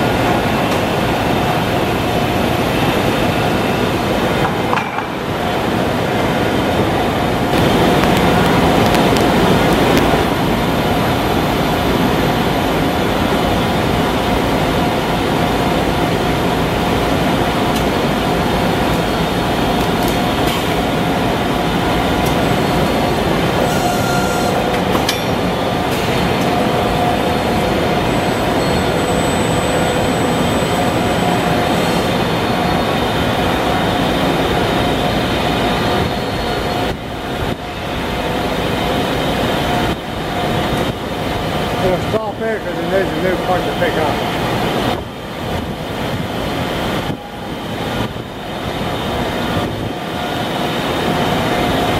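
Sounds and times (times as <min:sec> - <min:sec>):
industrial machinery noise: 0:00.0 - 0:51.9.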